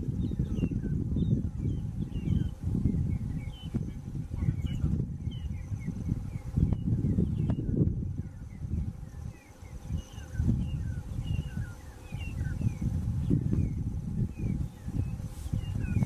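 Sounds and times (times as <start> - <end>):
wind buffeting microphone: 0.0 - 16.0
bird chirping: 0.1 - 16.0.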